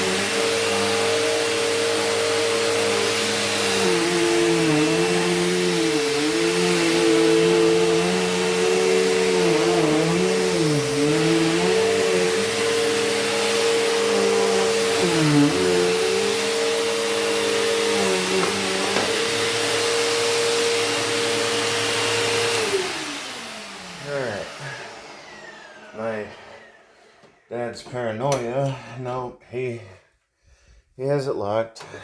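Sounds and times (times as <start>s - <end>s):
vacuum cleaner running: 0.0s - 27.4s.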